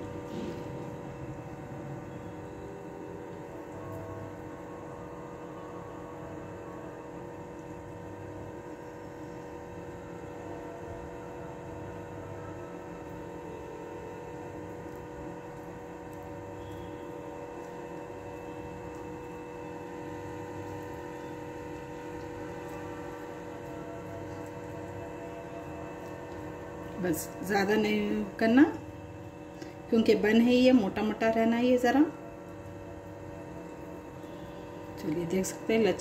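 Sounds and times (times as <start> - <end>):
steady hum of held tones: 0.0 - 36.0.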